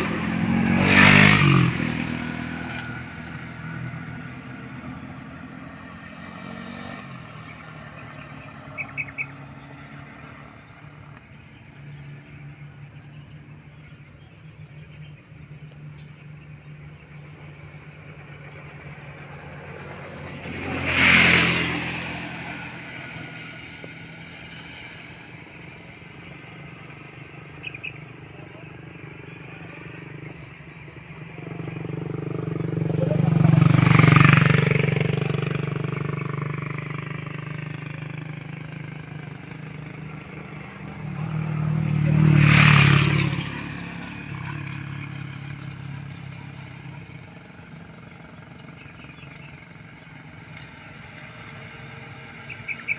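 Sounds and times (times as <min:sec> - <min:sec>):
vehicles passing by: 0:00.0 - 0:52.9.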